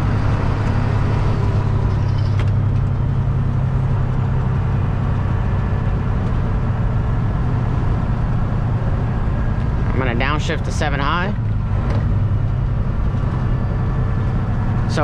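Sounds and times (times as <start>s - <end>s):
road noise: 0.0s - 15.0s
truck diesel engine running: 0.0s - 15.0s.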